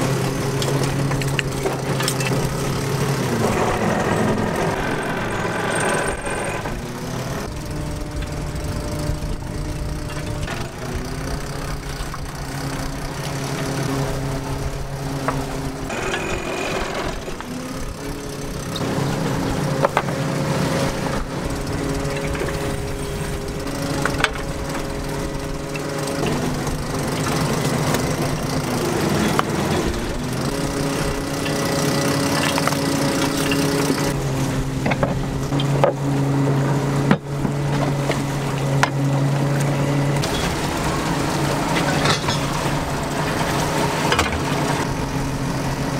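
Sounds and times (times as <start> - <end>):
boat engine drone: 0.0 - 45.9.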